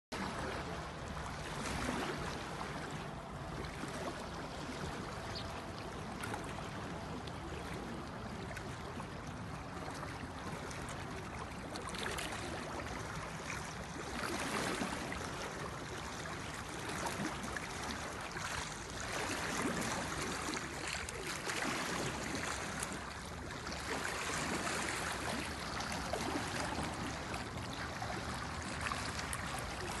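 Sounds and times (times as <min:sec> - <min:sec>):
small waves lapping on rocks: 0:00.2 - 0:30.0.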